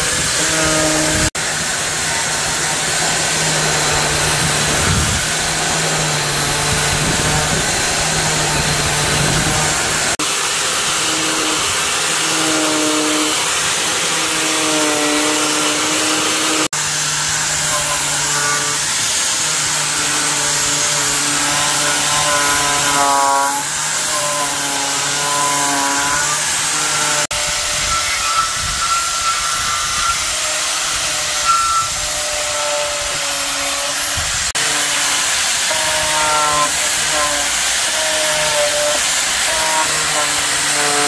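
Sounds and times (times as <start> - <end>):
power tool motor running: 0.0 - 41.0.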